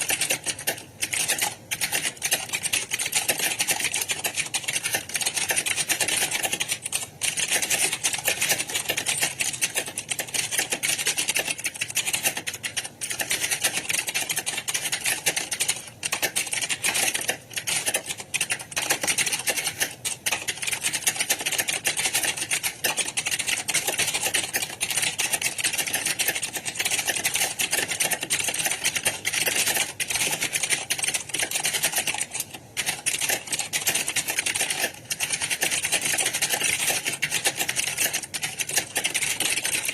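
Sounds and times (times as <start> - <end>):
clatter of keyboard typing: 0.0 - 39.9.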